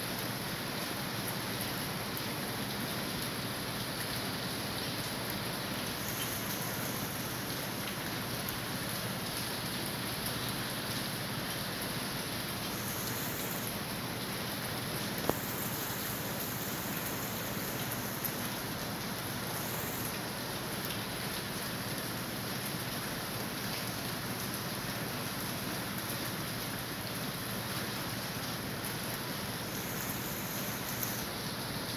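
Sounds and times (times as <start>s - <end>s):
steady rainfall: 0.0s - 31.9s.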